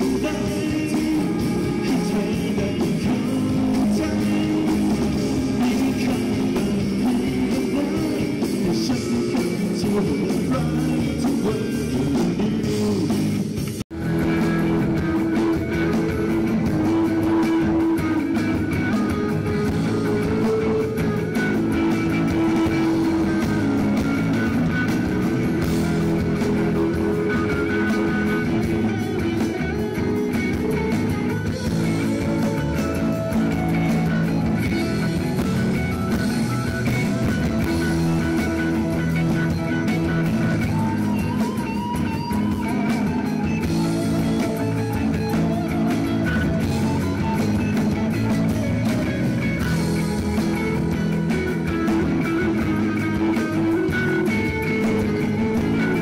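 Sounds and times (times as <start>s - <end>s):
electric guitar: 0.0s - 56.0s
live rock band playing: 0.0s - 56.0s.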